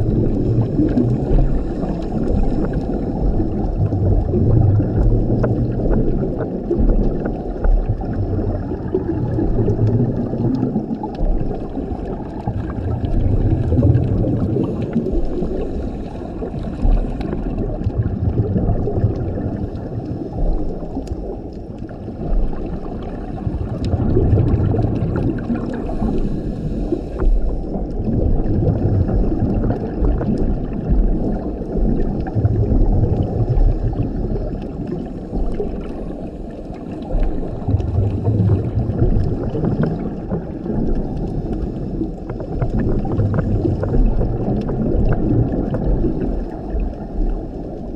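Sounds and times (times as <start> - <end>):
exhaled bubbles rumbling: 0.0 - 47.9
muffled underwater wash: 0.0 - 47.9.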